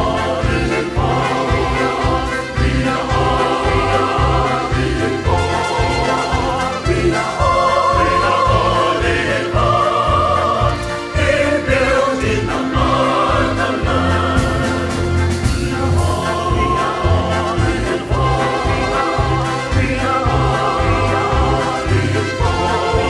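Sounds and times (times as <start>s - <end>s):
choir singing held notes: 0.0s - 23.0s
drums: 0.0s - 23.0s
pulsing bass line: 0.0s - 23.0s.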